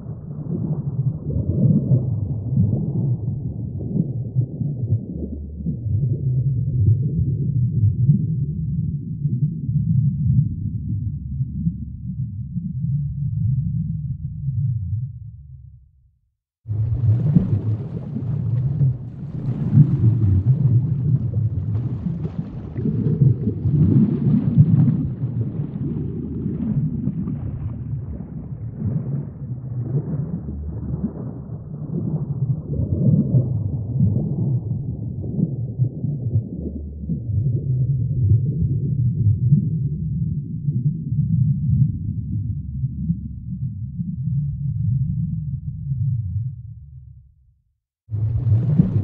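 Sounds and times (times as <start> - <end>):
deep low rumble with moaning tones: 0.0 - 16.0, 16.7 - 49.0.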